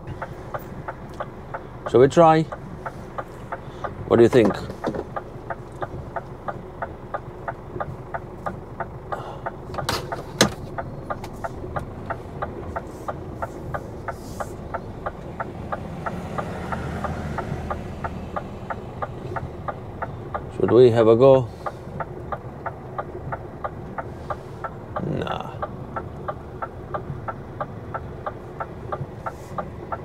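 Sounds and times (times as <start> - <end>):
diesel engine idling: 0.0 - 30.0
fast even ticking: 0.1 - 30.0.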